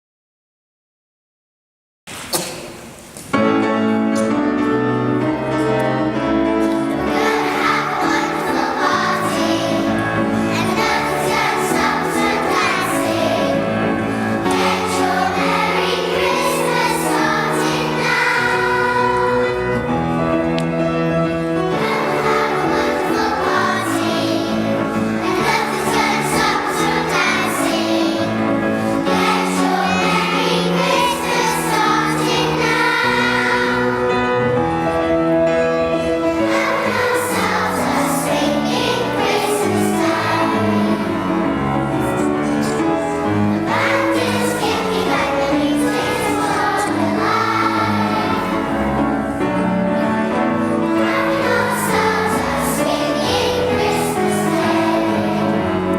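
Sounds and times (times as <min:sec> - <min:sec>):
instrumental accompaniment: 0:03.0 - 0:55.9
choir singing: 0:05.3 - 0:55.9.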